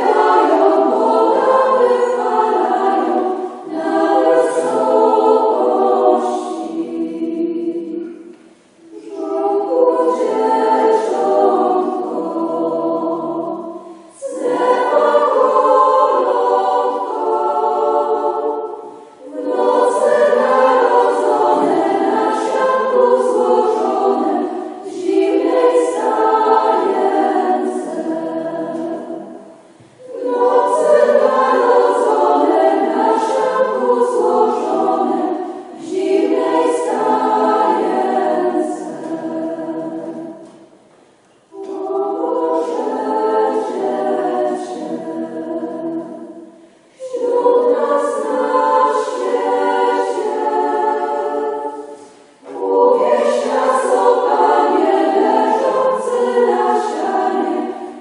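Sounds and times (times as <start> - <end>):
women's choir singing unaccompanied: 0.0 - 58.0.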